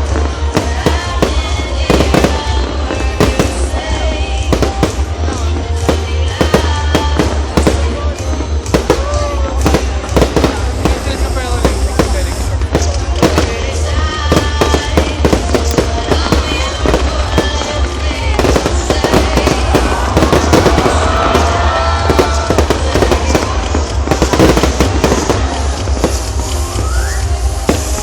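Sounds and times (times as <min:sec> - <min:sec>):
fireworks bangs and crackles: 0:00.0 - 0:28.0
music playing: 0:00.0 - 0:28.0.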